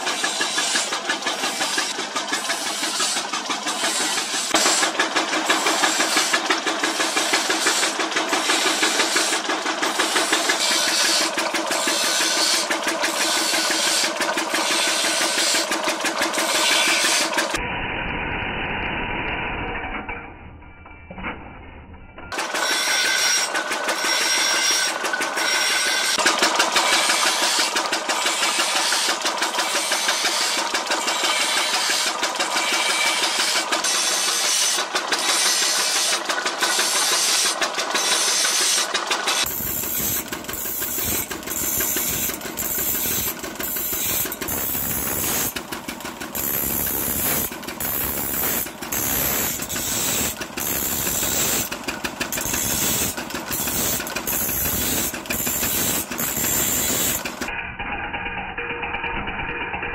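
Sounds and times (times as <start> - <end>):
grinding wheel on saw blade: 0.0 - 20.0, 22.3 - 59.9.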